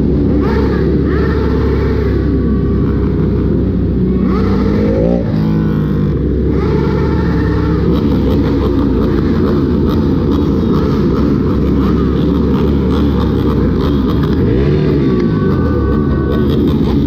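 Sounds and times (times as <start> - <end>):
motorbike engines revving: 0.0 - 17.0.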